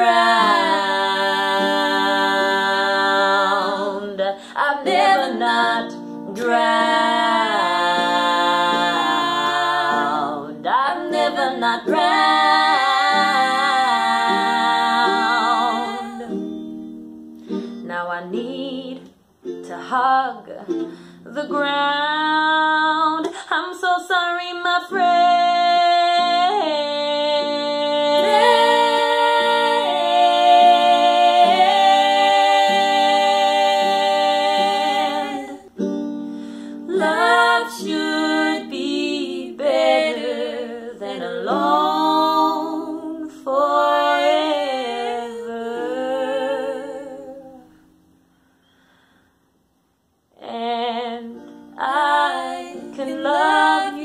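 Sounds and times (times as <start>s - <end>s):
woman singing: 0.0s - 16.6s, 17.8s - 35.8s, 36.7s - 47.9s, 50.4s - 54.0s
acoustic guitar: 0.0s - 54.0s.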